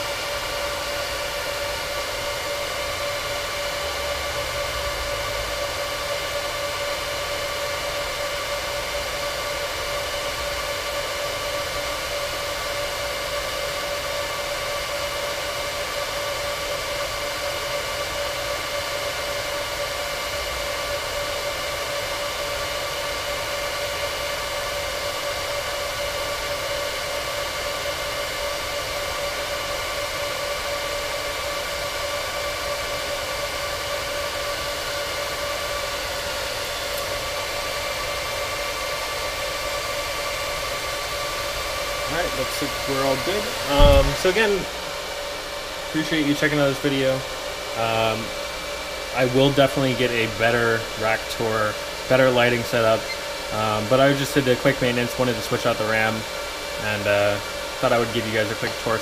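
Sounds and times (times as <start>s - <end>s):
server cooling fans whooshing: 0.0s - 59.0s.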